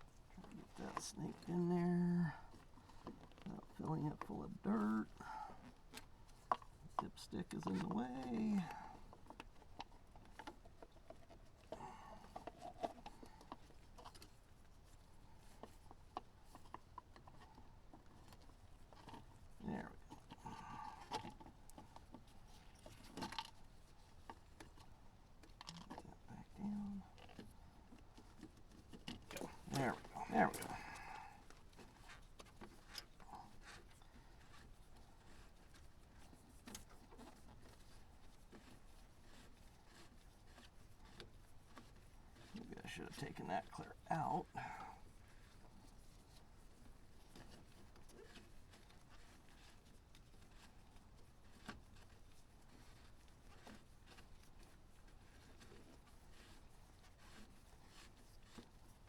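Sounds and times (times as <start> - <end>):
light rubbing of parts: 0.0 - 59.0.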